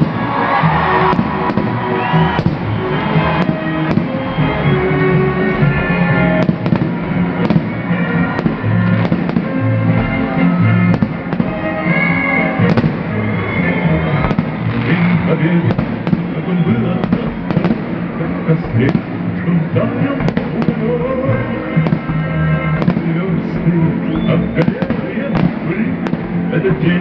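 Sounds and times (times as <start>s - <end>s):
fireworks bangs: 0.0s - 27.0s
loud steady music: 0.0s - 27.0s.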